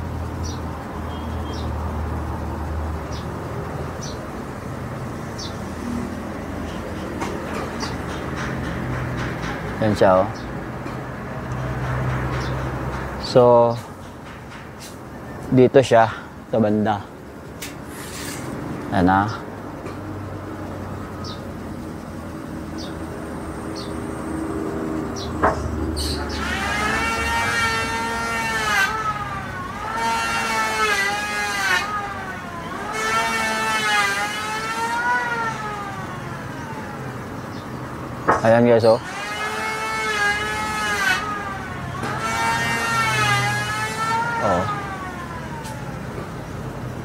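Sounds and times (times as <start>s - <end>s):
low rumble of traffic: 0.0s - 47.0s.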